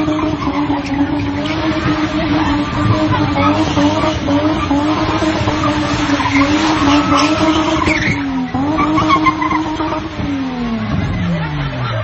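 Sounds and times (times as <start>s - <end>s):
tyres screeching: 0.0s - 11.4s
car engine at high revs: 0.0s - 12.0s.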